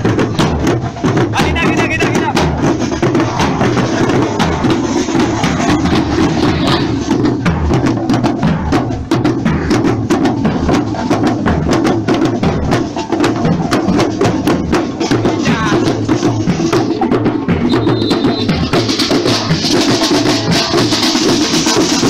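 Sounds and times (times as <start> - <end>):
marching band drums: 0.0 - 22.0.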